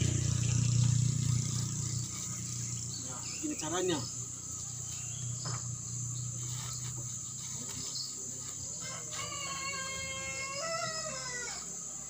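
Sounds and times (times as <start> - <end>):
dry leaves rustling: 0.0 - 10.4
insects droning: 0.0 - 12.0.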